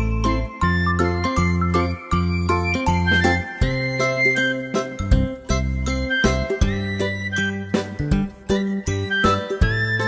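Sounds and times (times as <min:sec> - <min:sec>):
instrumental children's music: 0:00.0 - 0:10.0.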